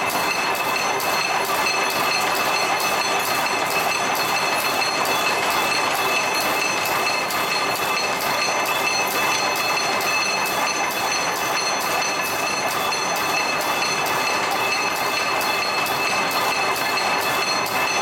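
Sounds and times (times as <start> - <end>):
high machine whine: 0.0 - 18.0
machine clatter: 0.0 - 18.0.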